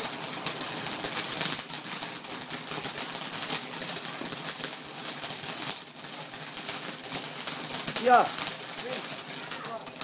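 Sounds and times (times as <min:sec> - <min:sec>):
sparkler crackling and fizzing: 0:00.0 - 0:10.0.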